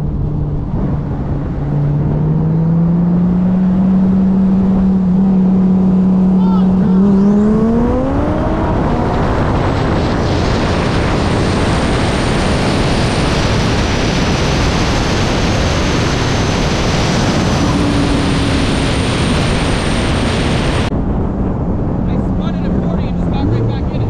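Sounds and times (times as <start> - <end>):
loud wind rush on microphone: 0.0 - 24.0.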